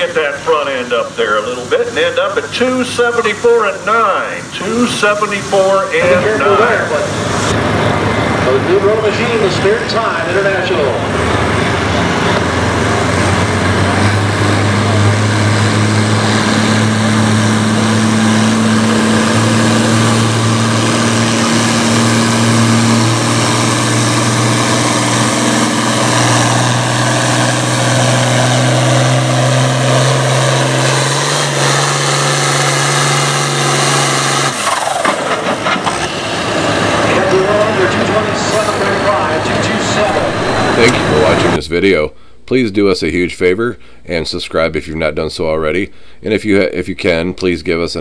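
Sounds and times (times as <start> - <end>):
tractor diesel engine under load: 0.0 - 42.4.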